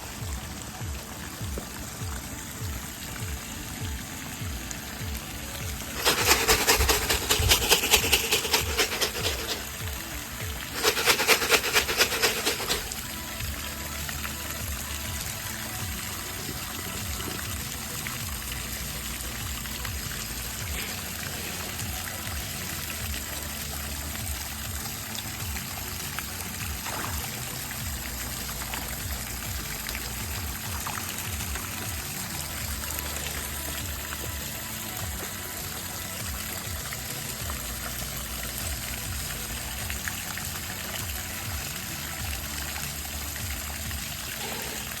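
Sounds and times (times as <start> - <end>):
water splashing into pond: 0.0 - 45.0.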